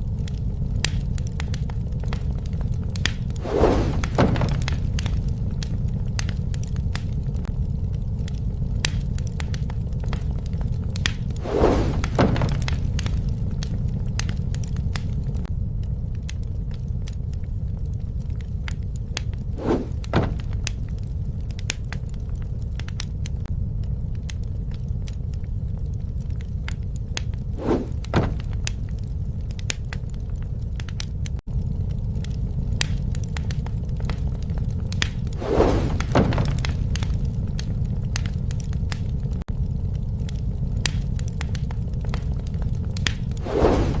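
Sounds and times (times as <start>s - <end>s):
burning wood crackling: 0.0s - 44.0s
campfire flame rumble: 0.0s - 44.0s.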